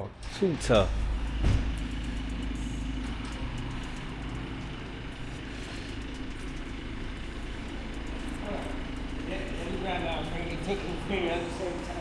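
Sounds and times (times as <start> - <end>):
car engine running: 0.3 - 12.0.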